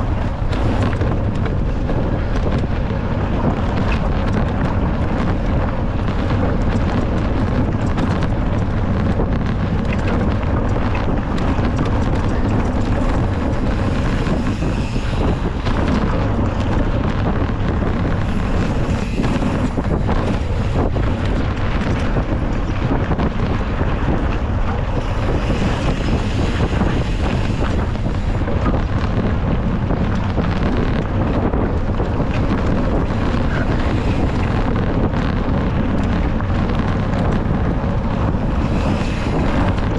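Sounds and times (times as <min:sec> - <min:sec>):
bike rattling over rough trail: 0:00.0 - 0:39.9
wind buffeting microphone: 0:00.0 - 0:39.9.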